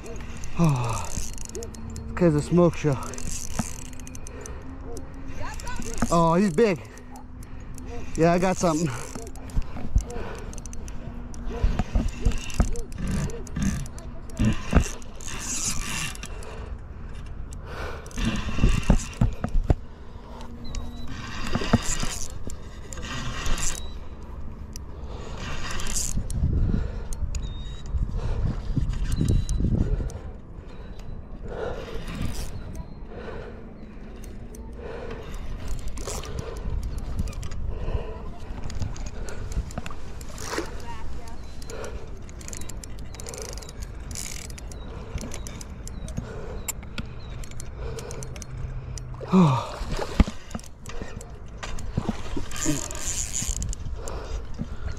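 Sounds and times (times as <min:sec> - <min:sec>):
fishing reel whirring: 0:00.0 - 0:54.9.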